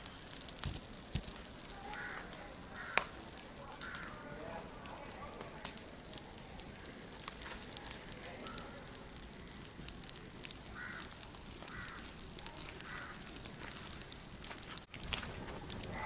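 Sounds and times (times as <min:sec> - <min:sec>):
fire crackling with sharp pops: 0:00.0 - 0:16.0.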